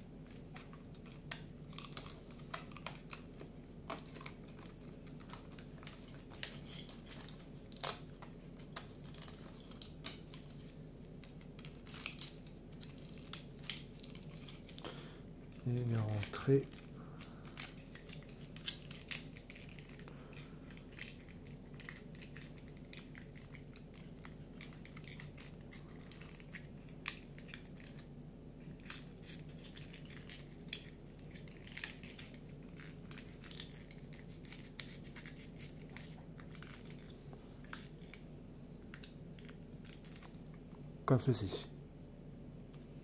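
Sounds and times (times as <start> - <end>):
faint low hum: 0.0 - 43.0.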